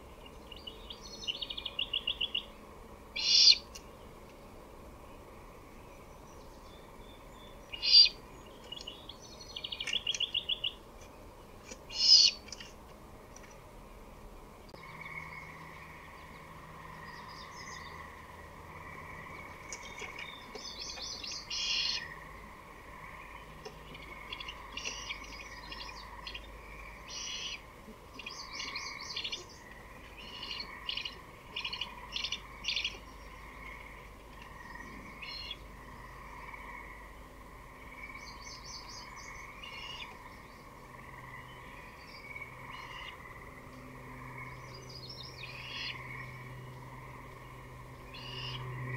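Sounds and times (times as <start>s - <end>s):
background hum: 0.0s - 48.9s.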